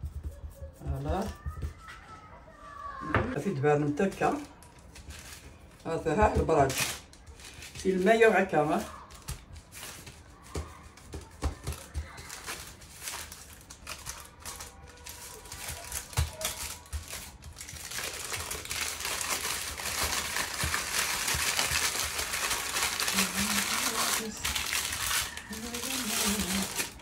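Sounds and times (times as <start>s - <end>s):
baking paper crinkling: 3.4s - 27.0s.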